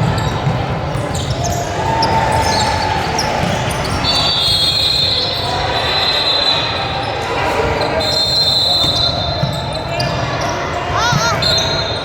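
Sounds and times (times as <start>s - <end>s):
spectator chatter: 0.0s - 12.0s.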